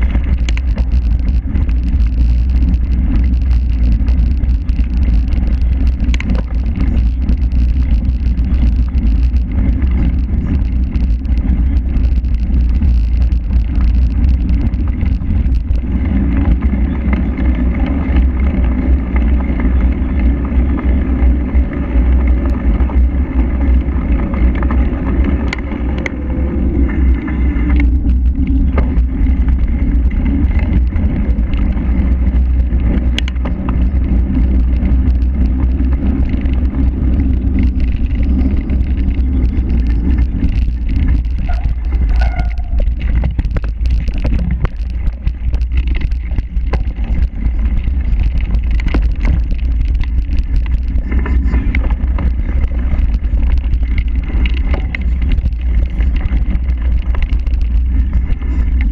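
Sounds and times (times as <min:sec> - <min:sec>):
bike clicks and rattles: 0:00.0 - 0:58.9
bike tyre noise: 0:00.0 - 0:58.9
wind rumble on microphone: 0:00.0 - 0:58.9.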